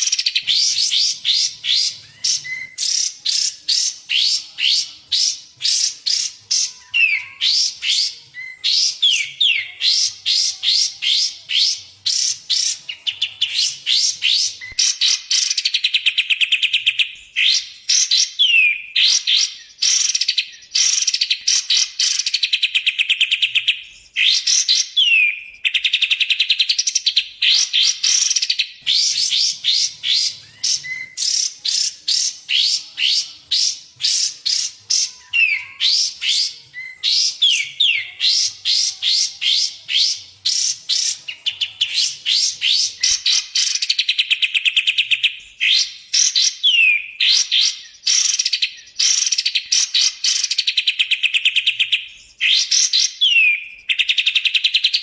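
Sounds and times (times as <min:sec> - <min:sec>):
bird chirps and trills: 0:00.0 - 0:55.0.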